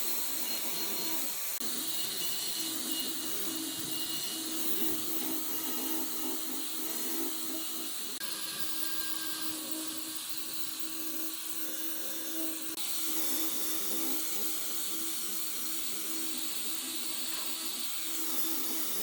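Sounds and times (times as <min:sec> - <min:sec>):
power tool whirring on wood: 0:00.0 - 0:19.0.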